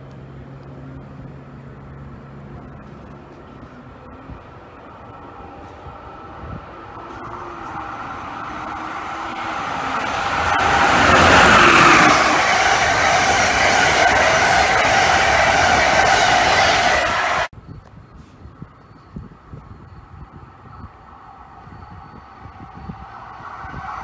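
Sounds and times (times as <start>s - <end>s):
passenger train passing: 0.0s - 17.5s, 20.0s - 24.0s.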